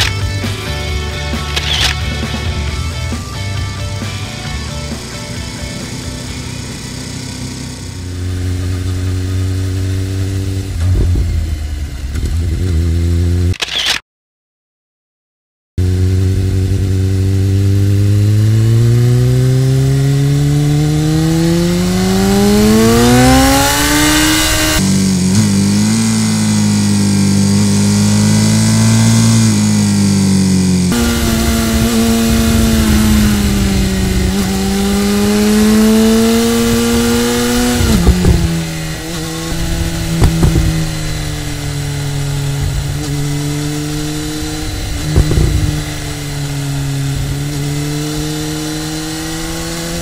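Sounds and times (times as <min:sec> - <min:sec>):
motorcycle engine revving: 0:00.0 - 0:13.6, 0:15.8 - 0:50.0.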